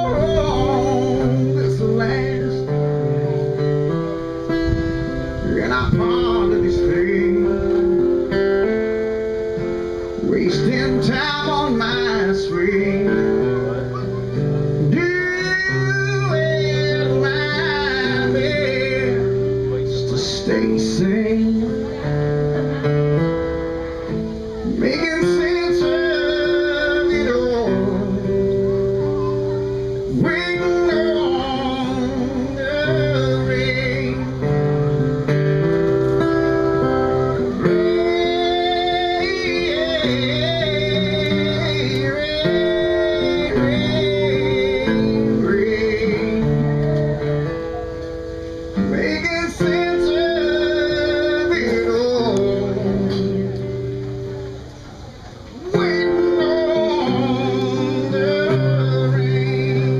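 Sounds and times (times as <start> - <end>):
acoustic guitar strumming: 0.0 - 59.9
wavering melodic lead line: 0.0 - 59.9.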